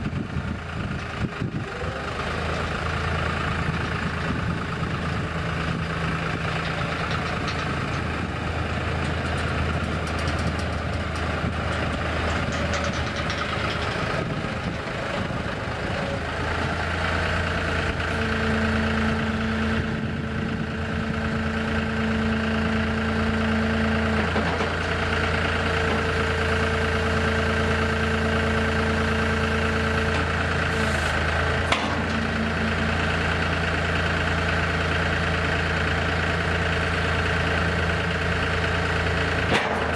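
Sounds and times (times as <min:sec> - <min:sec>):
diesel tractor engine idling: 0:00.0 - 0:39.9.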